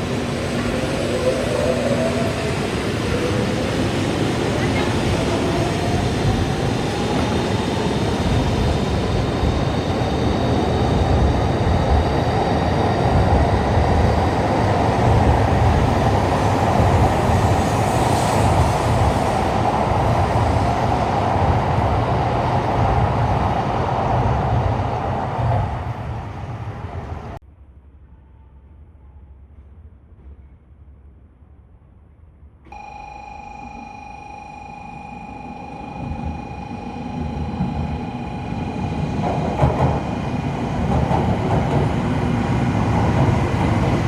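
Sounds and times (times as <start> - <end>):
train rumbling: 0.0 - 27.4, 34.3 - 44.0.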